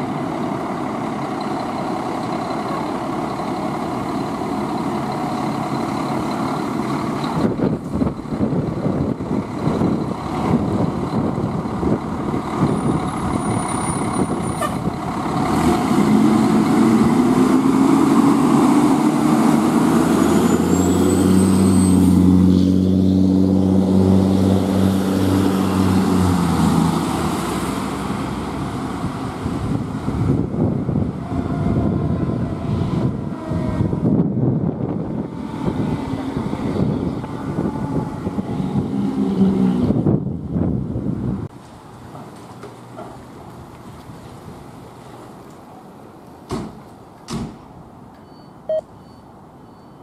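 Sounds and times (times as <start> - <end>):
diesel truck engine driving past: 0.0 - 41.5.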